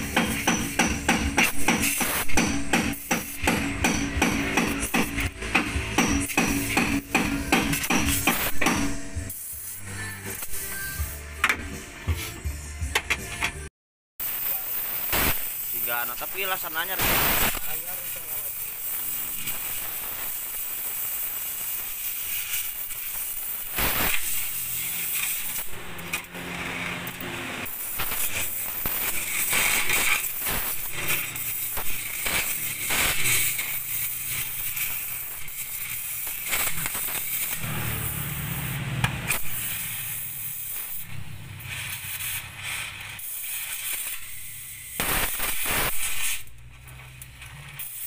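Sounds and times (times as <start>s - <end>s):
sharp pops of welding arc: 0.0s - 11.8s, 14.2s - 48.0s
welding arc crackling and hissing: 0.0s - 12.4s, 14.2s - 48.0s.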